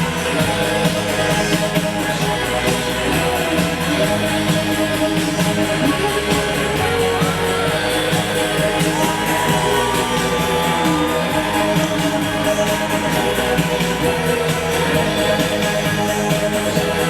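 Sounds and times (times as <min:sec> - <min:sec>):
guitar music over beat: 0:00.0 - 0:17.0.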